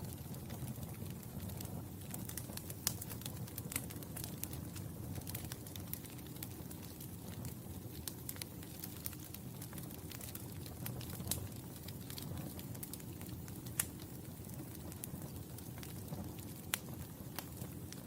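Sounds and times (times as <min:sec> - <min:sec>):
fire crackling and popping: 0:00.0 - 0:18.0
fire flames rumbling: 0:00.0 - 0:18.0.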